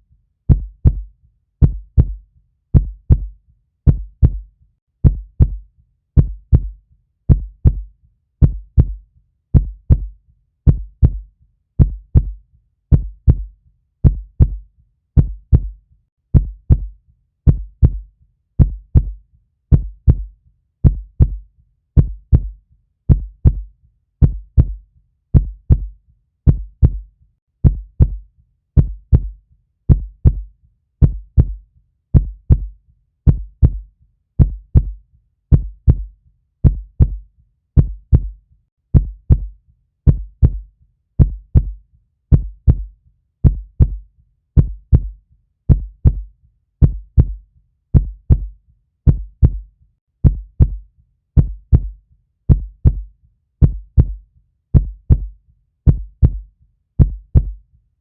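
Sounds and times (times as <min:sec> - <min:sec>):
human heartbeat: 0:00.5 - 0:57.6.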